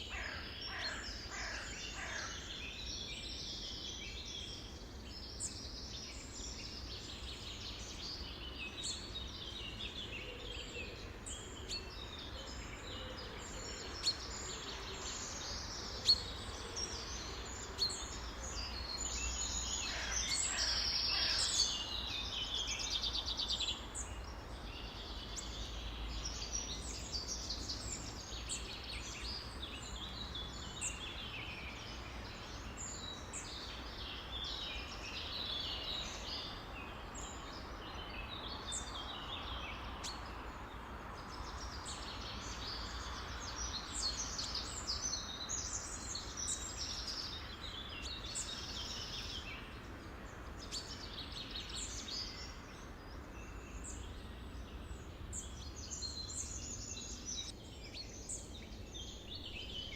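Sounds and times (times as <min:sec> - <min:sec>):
background hiss: 0:00.0 - 0:59.9
songbirds chirping and trilling: 0:00.0 - 0:59.9.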